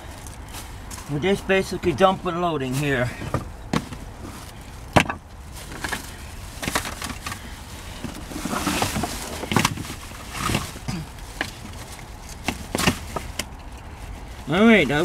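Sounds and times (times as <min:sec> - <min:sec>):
hose and cables clattering: 0:00.0 - 0:15.0
plastic bags rustling: 0:00.0 - 0:15.0.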